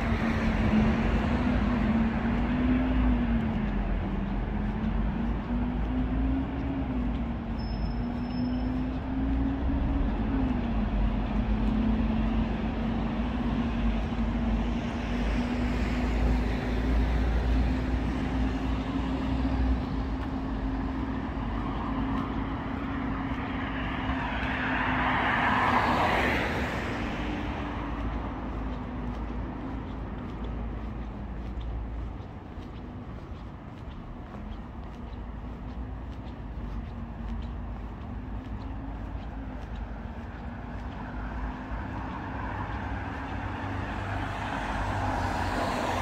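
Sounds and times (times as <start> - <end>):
traffic rumble: 0.0 - 46.0
vehicle passing: 9.1 - 46.0.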